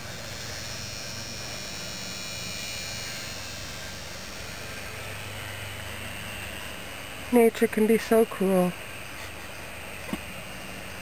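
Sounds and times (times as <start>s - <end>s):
high insect buzz: 0.0s - 10.9s
low constant hum: 0.0s - 11.0s.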